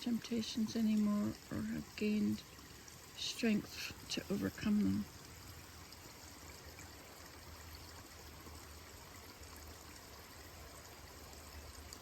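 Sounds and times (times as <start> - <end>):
faint rushing waterfall: 0.0 - 12.0.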